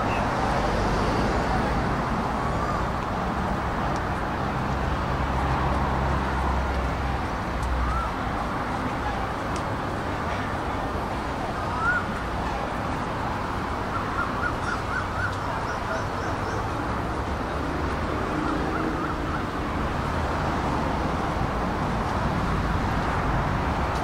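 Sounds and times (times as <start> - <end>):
low hum of city traffic: 0.0 - 24.0.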